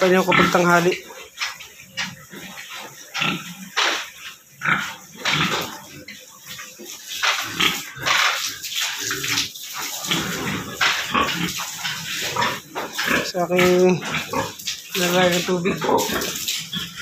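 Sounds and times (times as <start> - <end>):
boar grunting and slurping: 0.0 - 17.0
water squirting from hose: 0.0 - 17.0.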